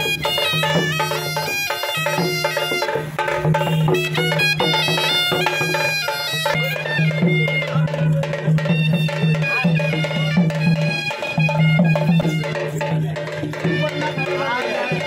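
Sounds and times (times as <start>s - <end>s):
drum strokes: 0.0s - 15.0s
wind instrument melody: 0.0s - 15.0s.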